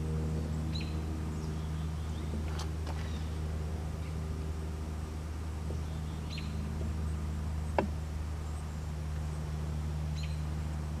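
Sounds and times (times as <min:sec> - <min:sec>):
bird chirping: 0:00.3 - 0:04.2, 0:05.6 - 0:10.7.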